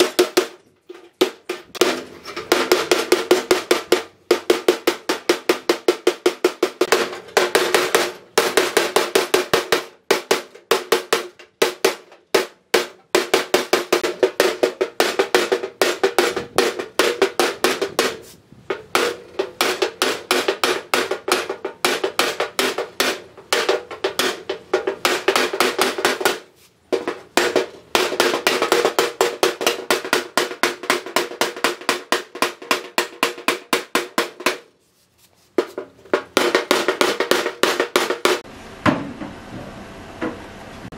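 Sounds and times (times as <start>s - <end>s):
hammer beating metal panel: 0.0s - 34.7s, 35.6s - 39.2s.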